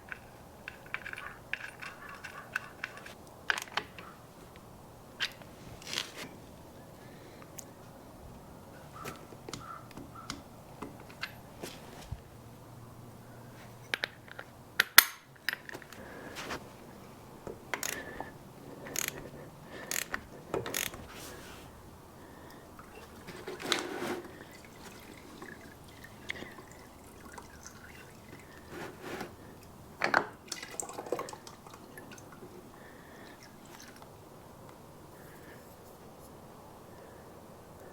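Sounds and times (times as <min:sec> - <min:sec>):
hand tools clicking and clanking: 0:00.0 - 0:12.2, 0:13.4 - 0:35.9.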